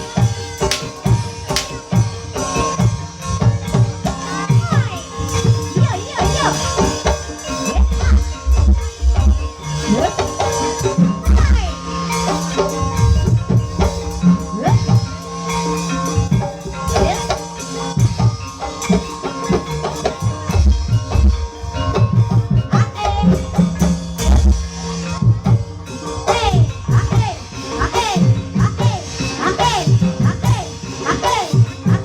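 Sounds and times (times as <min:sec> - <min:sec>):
gliding melodic lines: 0:00.0 - 0:31.9
hand drums: 0:00.0 - 0:32.0
ringing metal percussion: 0:00.0 - 0:32.0.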